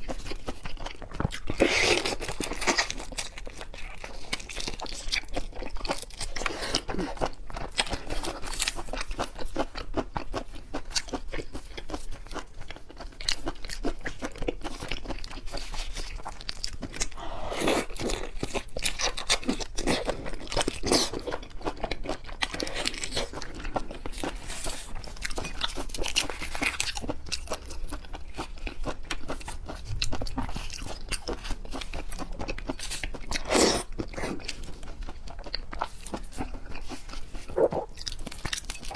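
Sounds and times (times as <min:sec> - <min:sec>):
crunching and chewing seafood: 0:00.0 - 0:38.9.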